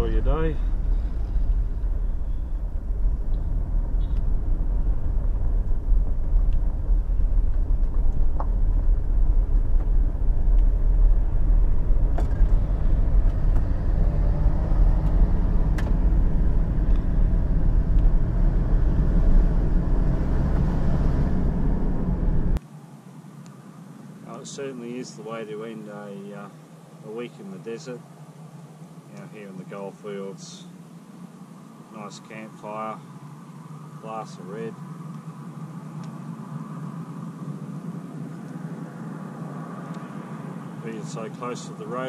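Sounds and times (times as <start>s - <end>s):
car engine and tyre road noise: 0.0s - 42.0s.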